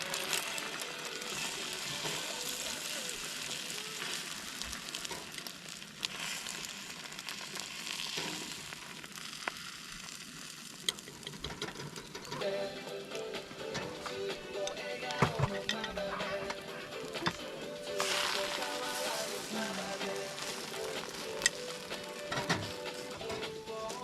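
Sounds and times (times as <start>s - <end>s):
food sizzling in a hot pan: 0.0s - 24.0s.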